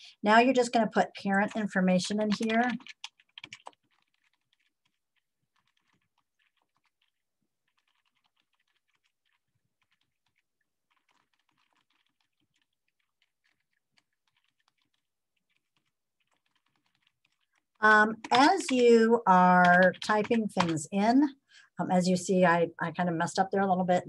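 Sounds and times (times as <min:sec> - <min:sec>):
faint keyboard typing: 0:00.0 - 0:24.0.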